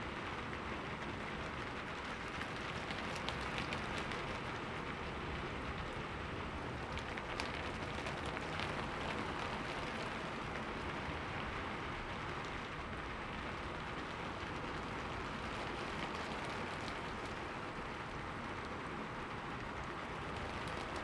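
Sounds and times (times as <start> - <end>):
rain falling: 0.0 - 21.0
raindrops ticking on a window: 0.0 - 21.0.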